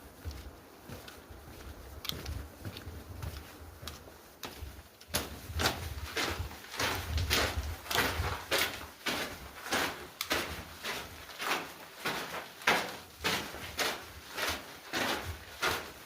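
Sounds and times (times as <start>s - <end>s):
footsteps on dirt trail: 0.0s - 16.0s.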